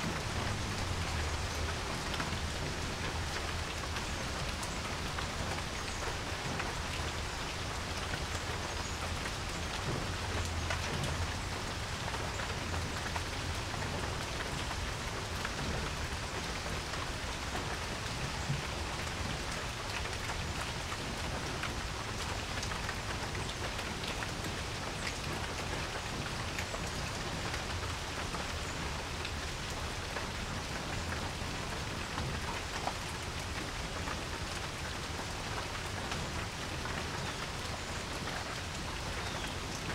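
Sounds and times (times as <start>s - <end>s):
rain falling on a porch: 0.0s - 39.9s
raindrops tapping: 0.0s - 39.9s.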